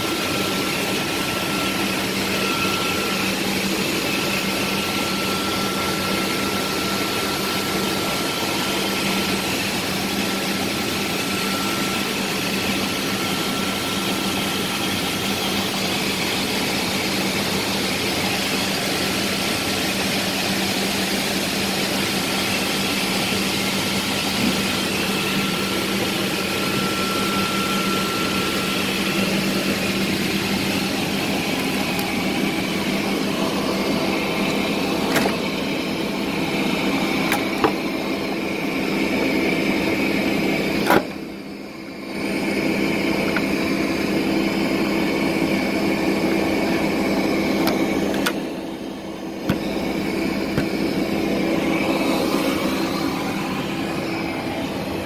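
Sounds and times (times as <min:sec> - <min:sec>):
aircraft mechanical drone: 0:00.0 - 0:55.0
constant hum: 0:00.0 - 0:55.0.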